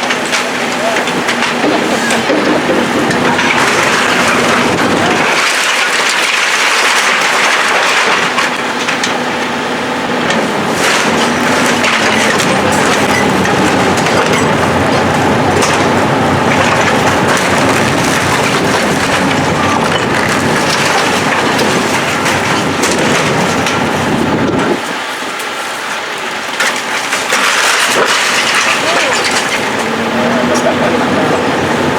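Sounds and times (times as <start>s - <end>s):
debris crunching and splintering: 0.0s - 31.9s
diesel engine running: 0.0s - 31.9s.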